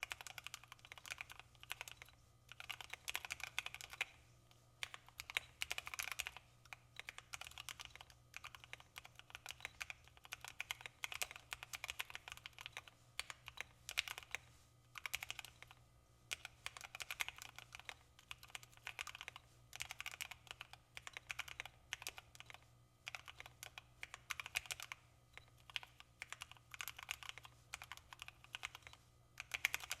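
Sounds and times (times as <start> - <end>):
mechanical keyboard typing: 0.0 - 4.2, 4.8 - 14.4, 15.0 - 30.0.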